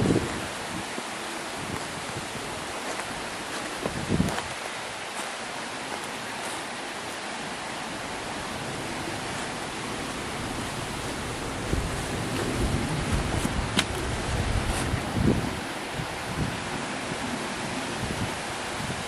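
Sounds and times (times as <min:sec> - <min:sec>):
wind buffeting microphone: 0:00.0 - 0:05.0, 0:07.9 - 0:19.0
rocky stream rushing: 0:00.0 - 0:19.0.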